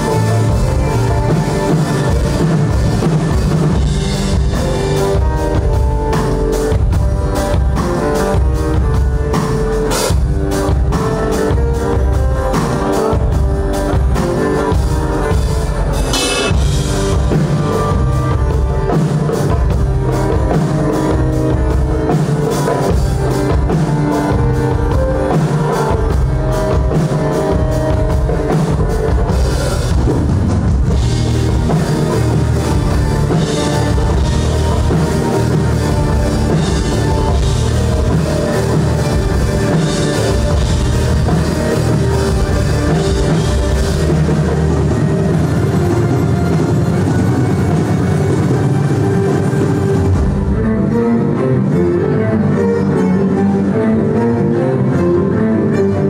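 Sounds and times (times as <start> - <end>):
drum kit beat: 0.0 - 51.0
live rock band playing: 0.0 - 56.0.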